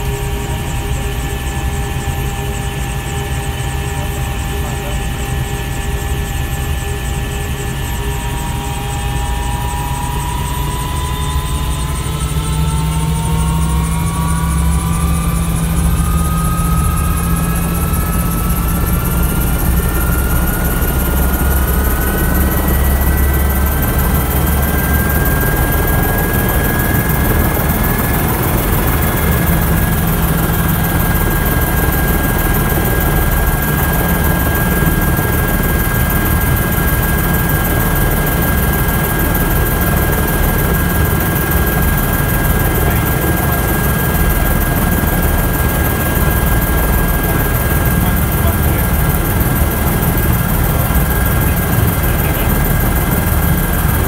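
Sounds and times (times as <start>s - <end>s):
helicopter turbine whine: 0.0s - 54.0s
low rotor rumble: 0.0s - 54.0s.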